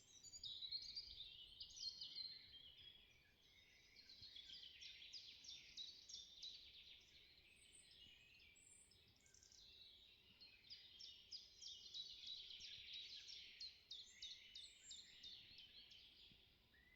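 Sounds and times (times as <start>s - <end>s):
songbirds singing: 0.0s - 16.9s.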